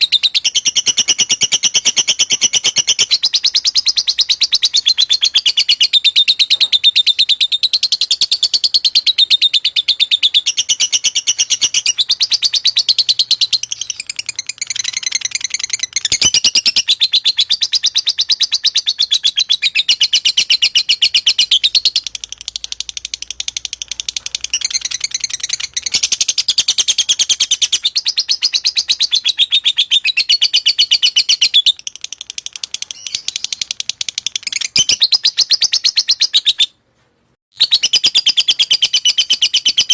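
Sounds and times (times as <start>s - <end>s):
lovebird chattering trill: 0.0s - 36.7s.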